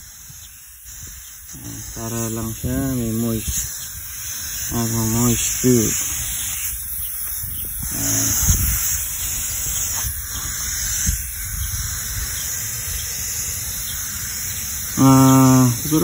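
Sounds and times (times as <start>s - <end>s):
water spraying fine hiss: 0.0s - 16.0s.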